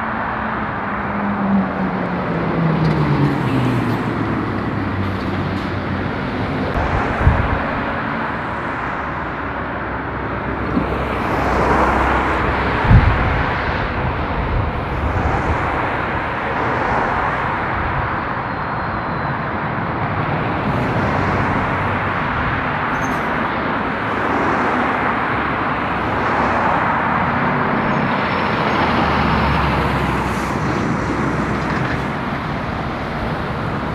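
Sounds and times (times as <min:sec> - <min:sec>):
diesel lorries passing: 0:00.0 - 0:33.9.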